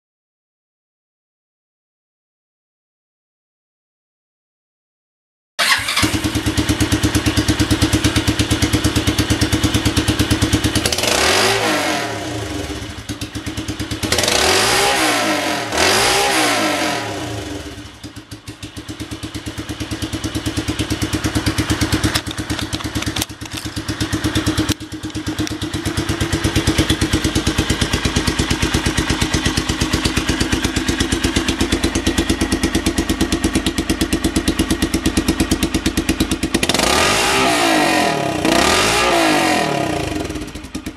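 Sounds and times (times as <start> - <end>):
motorcycle engine revving and idling: 5.6 - 40.9.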